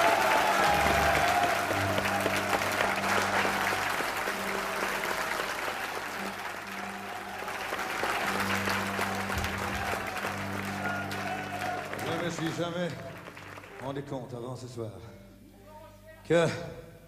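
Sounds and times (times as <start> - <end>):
band holding low notes: 0.0 - 14.2
audience clapping: 0.0 - 14.4.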